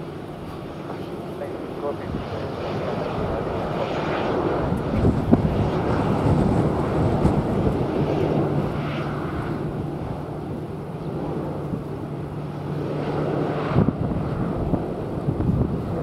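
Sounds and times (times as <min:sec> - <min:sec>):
jet engines running: 0:00.0 - 0:16.0
wind buffeting microphone: 0:00.0 - 0:16.0.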